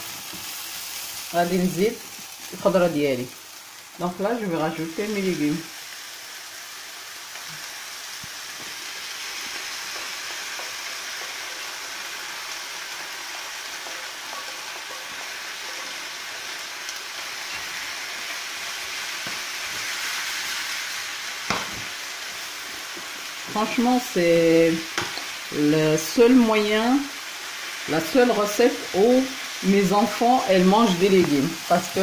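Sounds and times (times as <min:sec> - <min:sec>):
vegetables sizzling in a frying pan: 0:00.0 - 0:32.0.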